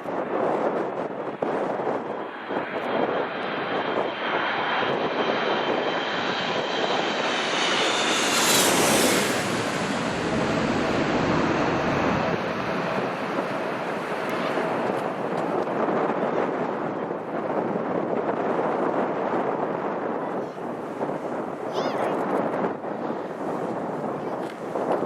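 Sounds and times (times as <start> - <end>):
jet airliner passing overhead: 0.0 - 25.0
jet engine whine: 0.0 - 25.0.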